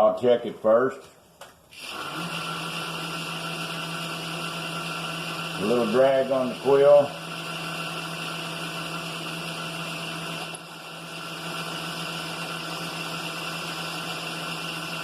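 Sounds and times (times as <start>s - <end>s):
milling machine running: 1.8s - 15.0s.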